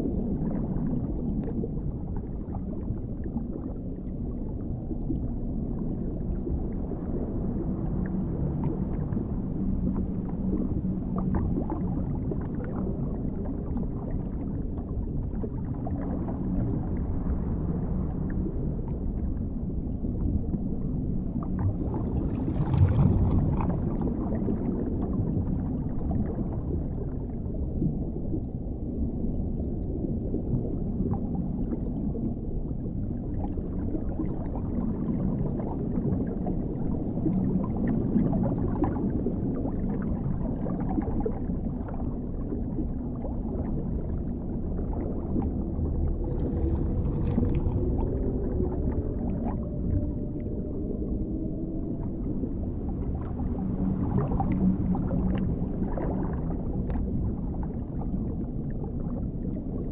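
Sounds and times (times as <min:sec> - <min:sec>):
gurgling bubbles: 0:00.0 - 0:59.9
underwater rumble: 0:00.0 - 0:59.9.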